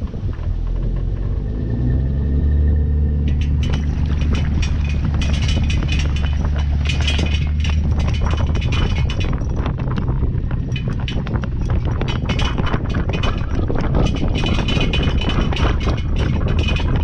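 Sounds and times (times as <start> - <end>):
trailer rattling and clanking: 0.0 - 17.0
vehicle low rumble: 0.0 - 17.0.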